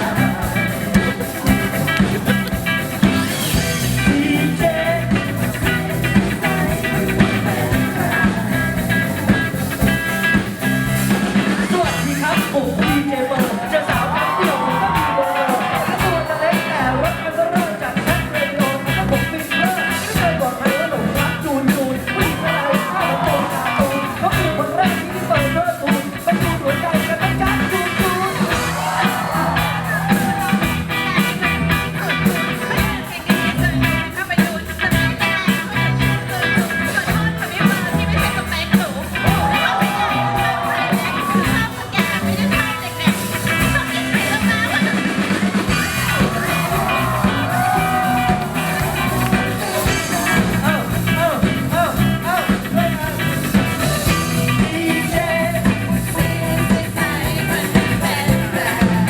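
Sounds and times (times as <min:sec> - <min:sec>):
person singing: 0:00.0 - 0:02.4, 0:03.0 - 0:09.5, 0:11.4 - 0:38.0, 0:43.6 - 0:59.0
loud band music with beat: 0:00.0 - 0:59.0.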